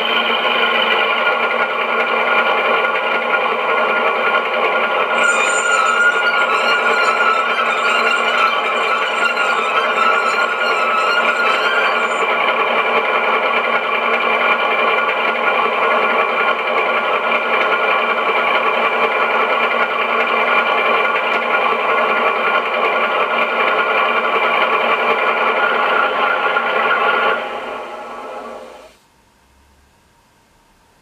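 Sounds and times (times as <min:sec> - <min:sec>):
diesel engine sound from small speaker: 0:00.0 - 0:28.8.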